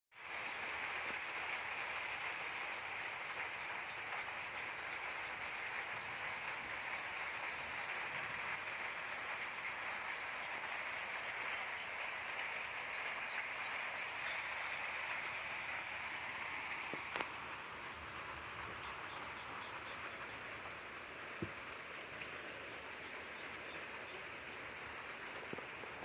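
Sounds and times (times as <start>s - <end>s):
steady hiss: 0.2s - 26.0s.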